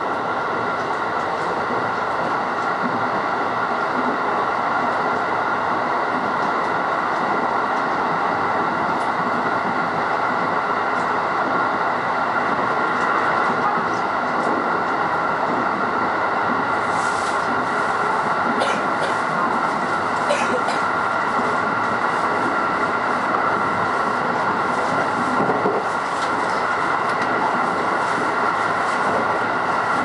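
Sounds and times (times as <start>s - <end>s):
steady train hum: 0.0s - 30.0s
train wheels rumbling on rail: 0.0s - 30.0s.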